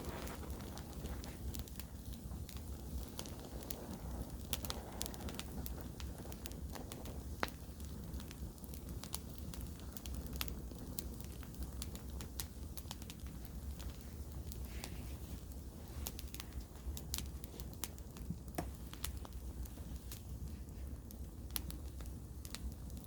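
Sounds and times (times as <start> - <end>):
campfire crackling and popping: 0.0 - 23.0
steady low rumble: 0.0 - 23.0.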